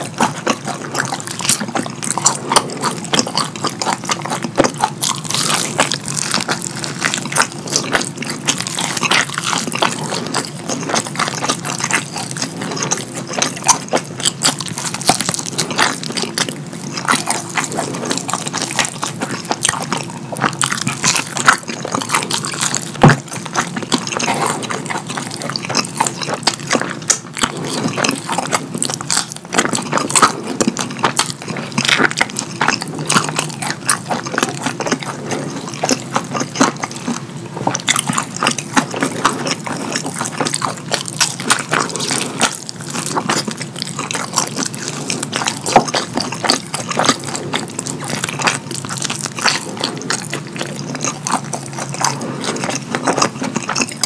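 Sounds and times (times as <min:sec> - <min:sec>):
wet chewing and lip-smacking: 0:00.0 - 0:54.0.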